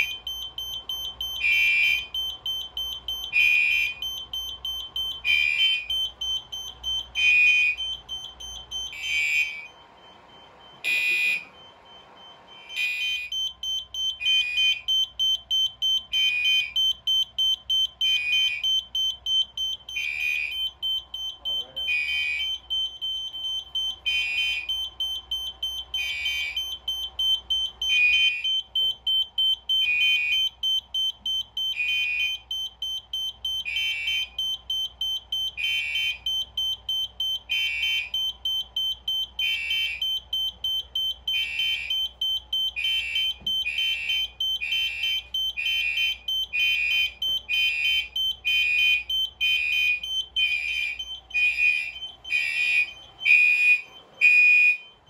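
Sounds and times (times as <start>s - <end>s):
pulsed alarm horn: 0.0s - 9.8s, 10.8s - 17.0s, 18.0s - 28.5s, 31.6s - 55.0s.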